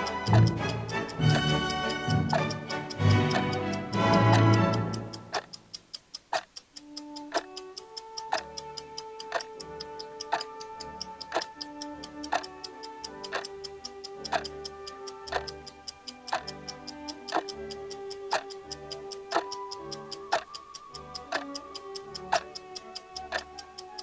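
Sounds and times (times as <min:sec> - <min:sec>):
music with long held notes: 0:00.0 - 0:05.3, 0:07.1 - 0:24.0
clock ticking: 0:00.0 - 0:24.0.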